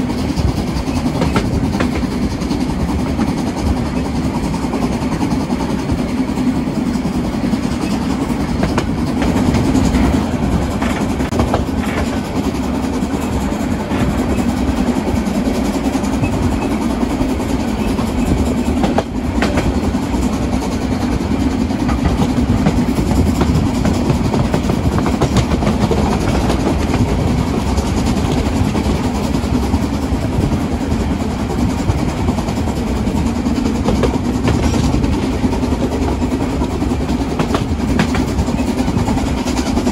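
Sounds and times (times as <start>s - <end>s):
train rumbling on rails: 0.0s - 39.9s
wheels clicking and clattering: 0.0s - 39.9s.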